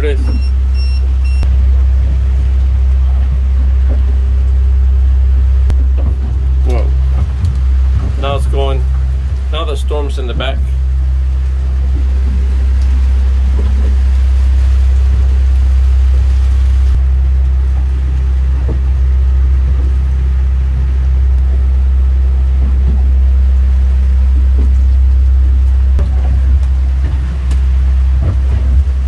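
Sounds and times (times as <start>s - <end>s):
heavy rain pelting a boat: 0.0s - 29.0s
steady low rumble: 0.0s - 29.0s.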